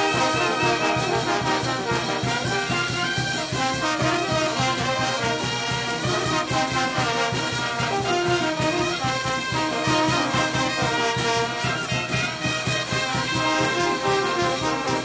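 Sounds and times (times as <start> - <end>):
baritone horns: 0.0 - 15.0
bass drum and snare drum beat: 0.0 - 15.0
saxophones: 0.0 - 15.0
trumpets: 0.0 - 15.0.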